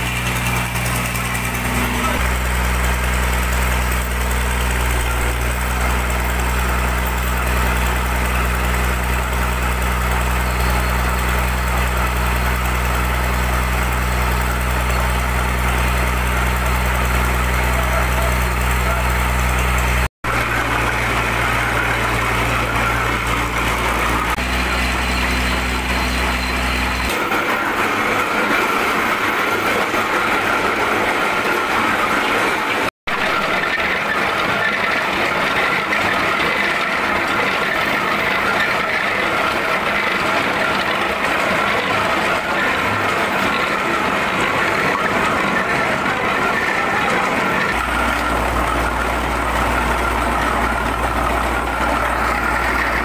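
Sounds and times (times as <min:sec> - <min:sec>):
brick machine rollers running: 0:00.0 - 0:53.0
diesel engine running: 0:00.0 - 0:53.0.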